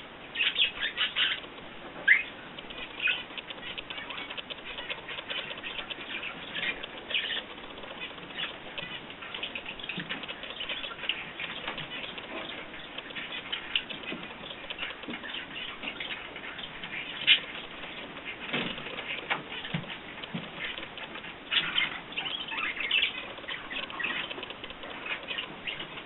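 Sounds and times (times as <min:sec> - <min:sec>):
small birds chirping: 0:00.0 - 0:26.0
wings fluttering: 0:00.4 - 0:26.0.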